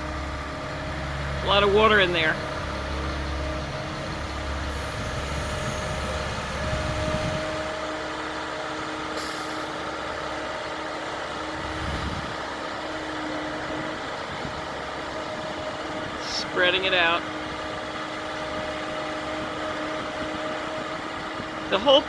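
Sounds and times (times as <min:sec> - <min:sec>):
diesel machinery running: 0:00.0 - 0:22.0.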